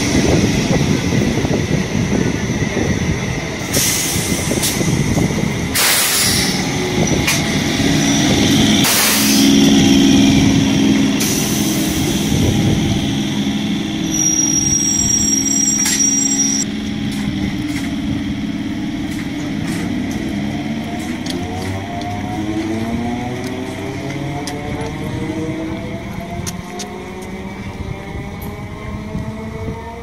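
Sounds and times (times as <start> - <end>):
train coaches humming: 0.0 - 29.9.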